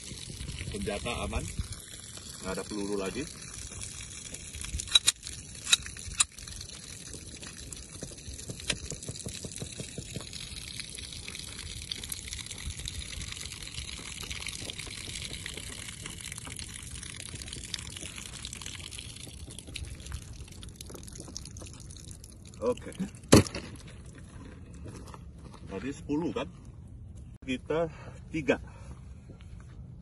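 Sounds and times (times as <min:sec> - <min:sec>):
water pouring from plastic jugs: 0:00.0 - 0:24.6.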